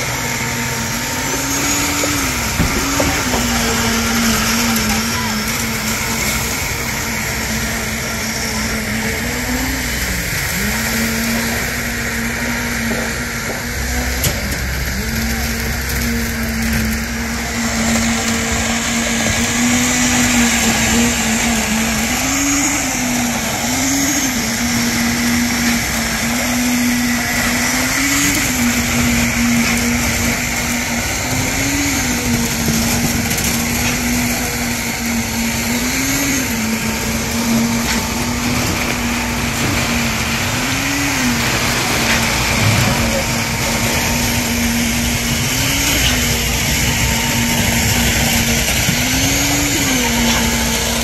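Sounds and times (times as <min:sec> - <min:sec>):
concrete machinery motor drone: 0:00.0 - 0:51.0
wide mechanical noise: 0:00.0 - 0:51.0.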